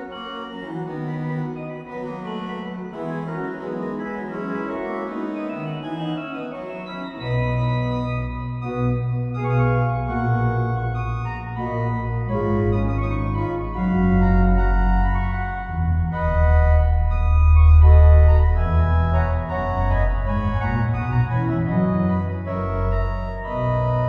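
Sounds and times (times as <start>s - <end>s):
pipe organ playing: 0.0s - 24.0s.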